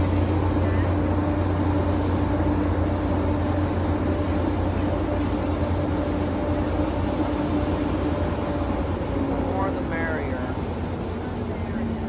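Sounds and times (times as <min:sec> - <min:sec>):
train diesel engine drone: 0:00.0 - 0:12.0.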